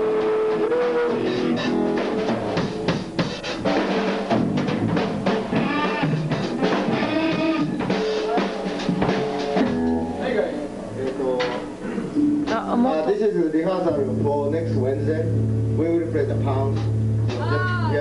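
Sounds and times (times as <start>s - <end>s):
rock band playing: 0.0s - 11.0s, 13.9s - 18.0s
busy drumming: 0.0s - 18.0s.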